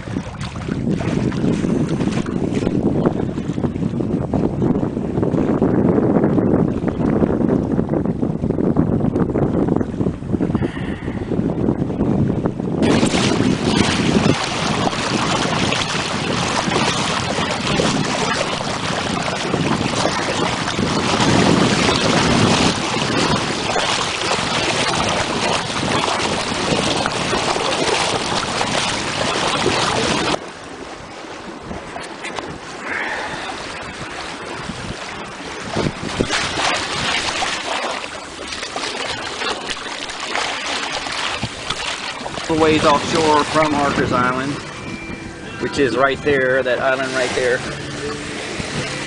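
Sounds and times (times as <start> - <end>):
water rushing and splashing: 0.0 - 5.2, 12.8 - 49.0
wind buffeting microphone: 0.0 - 49.0.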